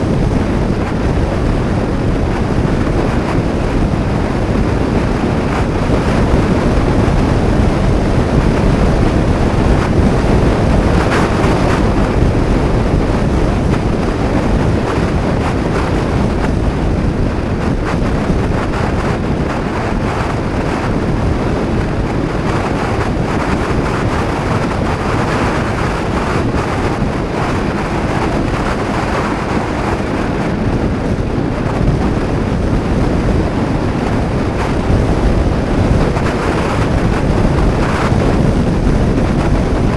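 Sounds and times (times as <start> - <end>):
scooter engine and road noise: 0.0 - 39.9
wind buffeting microphone: 0.0 - 39.9.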